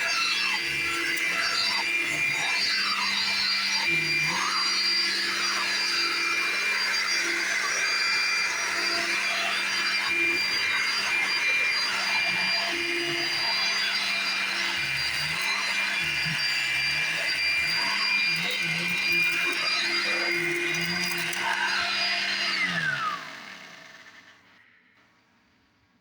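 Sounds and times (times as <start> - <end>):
vacuum cleaner running: 0.0 - 24.6.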